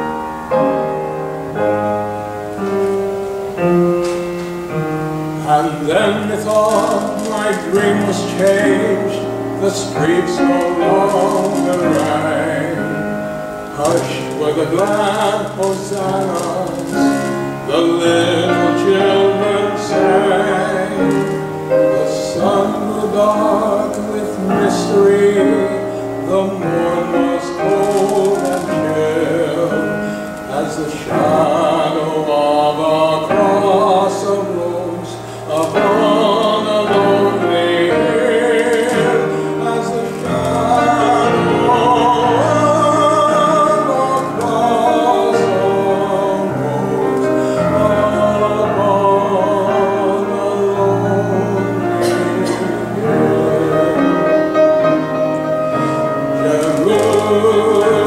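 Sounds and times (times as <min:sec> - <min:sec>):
instrumental accompaniment: 0:00.0 - 0:58.0
person singing a hymn: 0:00.0 - 0:58.0.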